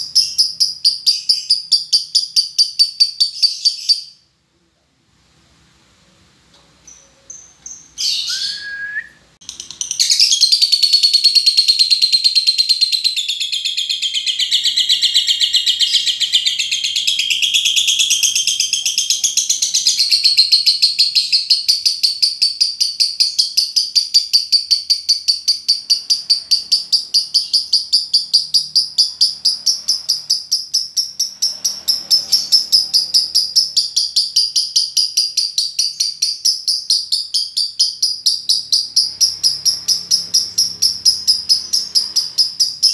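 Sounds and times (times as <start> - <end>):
lovebird chattering song: 0.0 - 4.2, 6.8 - 8.7, 9.4 - 42.9
bird chirps: 0.0 - 4.3, 6.8 - 42.9.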